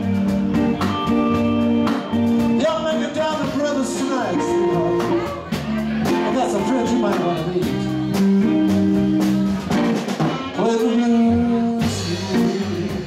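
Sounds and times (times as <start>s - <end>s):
drum beat: 0.0s - 13.0s
electric guitars: 0.0s - 13.0s.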